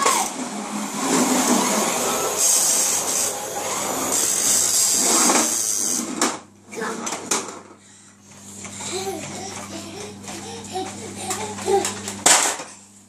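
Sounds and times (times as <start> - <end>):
toy cars rolling on floor: 0.0 - 12.8.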